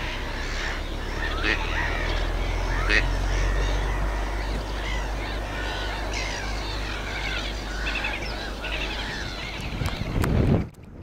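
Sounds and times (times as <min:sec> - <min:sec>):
birds chirping and warbling: 0:00.0 - 0:11.0
steady low rumble: 0:00.0 - 0:11.0.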